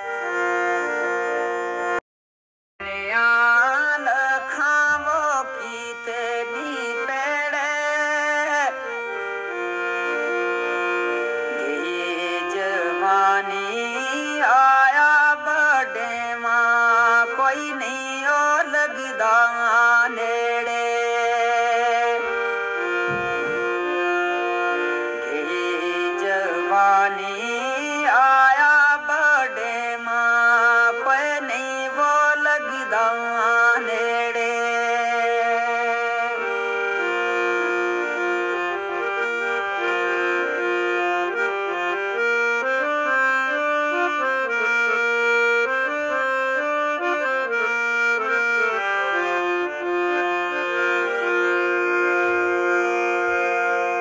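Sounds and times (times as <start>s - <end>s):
reedy instrument melody: 0.0s - 2.0s, 2.8s - 54.0s.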